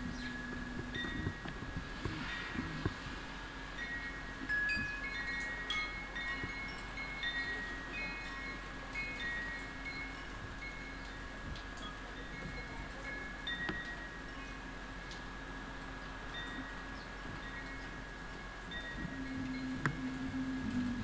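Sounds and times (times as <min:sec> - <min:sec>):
chimes ringing: 0:00.1 - 0:01.6, 0:03.8 - 0:14.7, 0:16.3 - 0:21.0.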